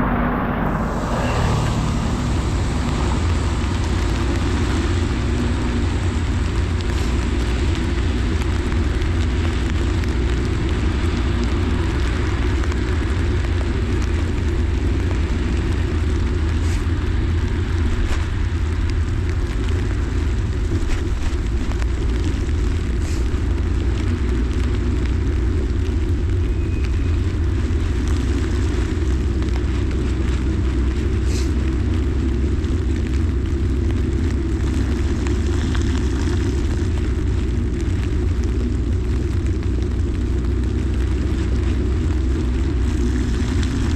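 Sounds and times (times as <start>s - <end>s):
bicycle low rumble: 0.0s - 43.9s
rain hiss on wet road: 0.9s - 43.9s.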